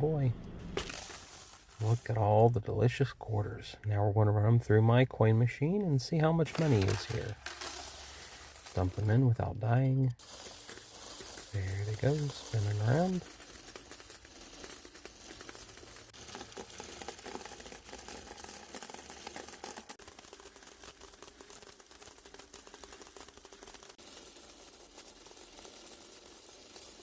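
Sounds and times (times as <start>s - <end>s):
coin counting machine clattering: 0.8s - 2.4s, 6.5s - 27.0s.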